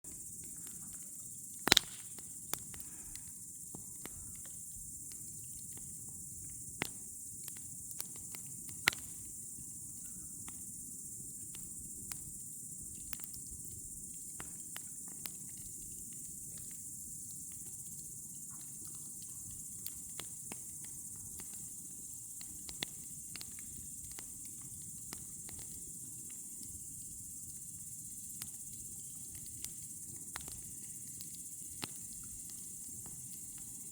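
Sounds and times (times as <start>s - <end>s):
crickets chirping: 0.0s - 33.9s
campfire crackling and popping: 0.1s - 33.9s.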